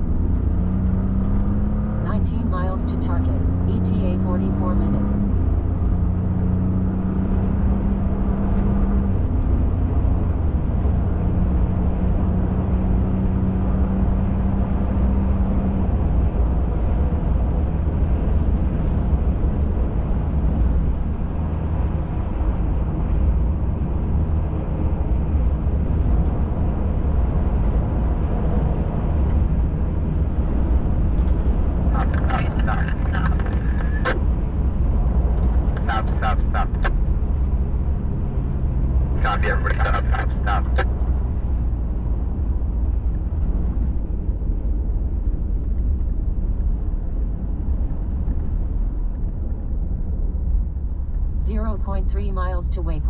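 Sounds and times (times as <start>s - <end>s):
truck engine drone: 0.0s - 13.8s, 15.8s - 53.0s
road rumble: 0.0s - 53.0s.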